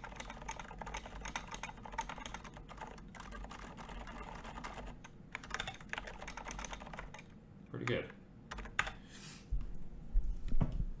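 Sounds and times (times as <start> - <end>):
mechanical keyboard typing: 0.0 - 9.0.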